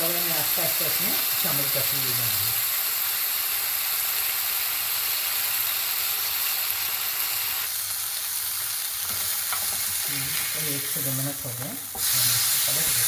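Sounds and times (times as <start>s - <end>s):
chicken sizzling on grill pan: 0.0s - 13.0s.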